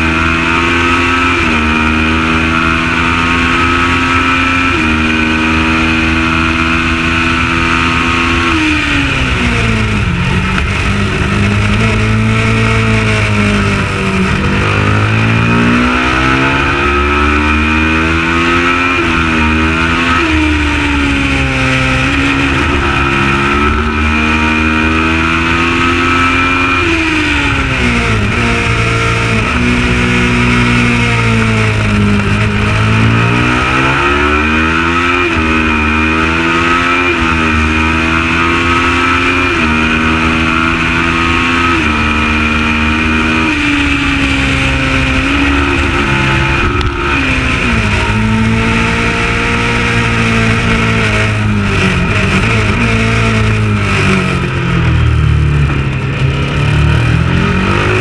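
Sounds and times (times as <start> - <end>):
race motorcycle engine revving: 0.0 - 58.0.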